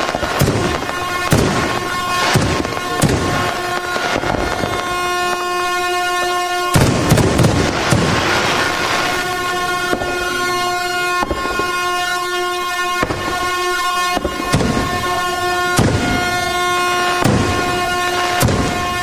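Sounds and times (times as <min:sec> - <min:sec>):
fireworks bangs: 0:00.0 - 0:19.0
fireworks crackling: 0:00.0 - 0:19.0
steady air horn tone: 0:00.0 - 0:19.0.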